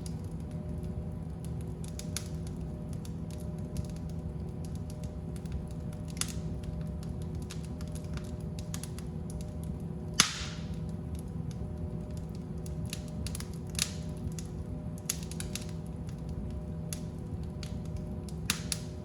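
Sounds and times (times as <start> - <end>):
fire crackling and popping: 0.0 - 19.0
low rumble of fire: 0.0 - 19.0.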